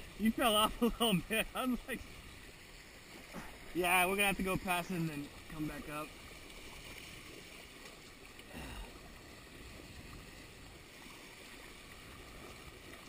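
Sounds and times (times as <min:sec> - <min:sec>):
water washing against hulls: 0:00.0 - 0:13.0.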